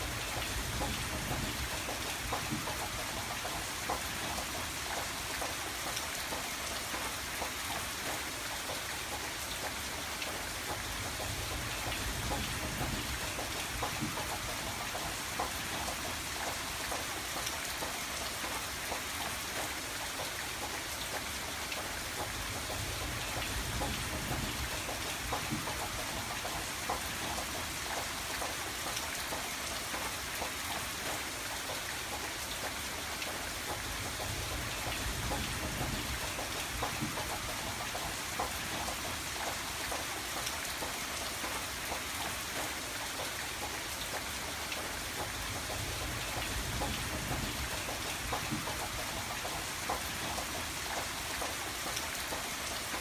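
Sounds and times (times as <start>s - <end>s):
rain on a window: 0.0s - 53.0s.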